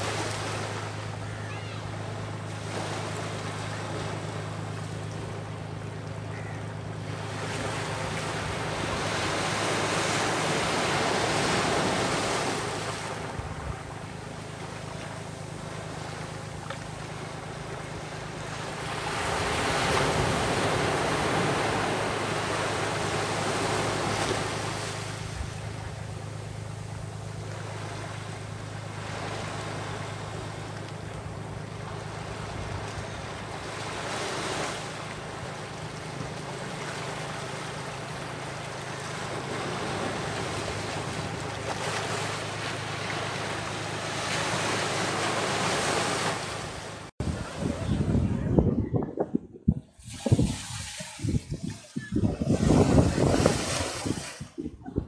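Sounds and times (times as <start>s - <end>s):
waves breaking on beach: 0.0s - 48.4s, 50.0s - 54.8s.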